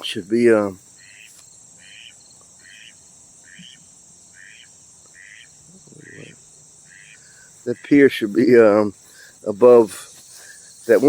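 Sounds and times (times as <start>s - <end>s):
insects shrill drone: 0.0s - 11.0s
short insect chirp: 0.0s - 11.0s.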